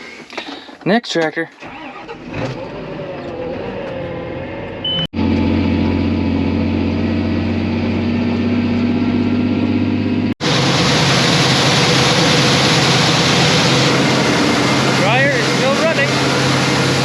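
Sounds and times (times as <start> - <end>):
tractor engine droning: 1.6 - 17.0.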